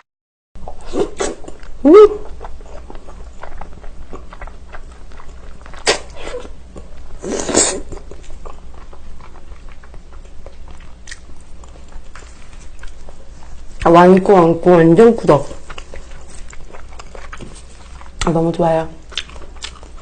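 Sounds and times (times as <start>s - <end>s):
wet chewing: 0.6s - 20.0s.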